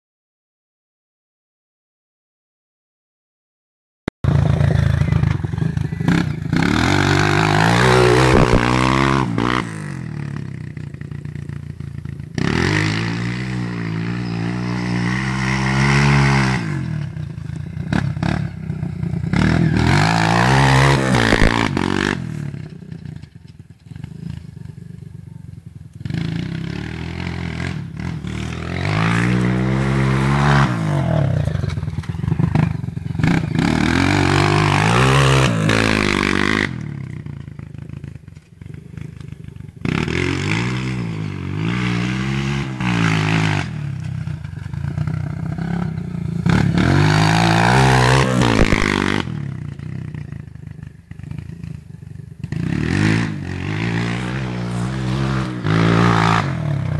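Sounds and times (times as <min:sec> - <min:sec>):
motocross bike engine revving: 0:04.2 - 0:24.6, 0:26.0 - 0:38.1, 0:38.7 - 0:56.9.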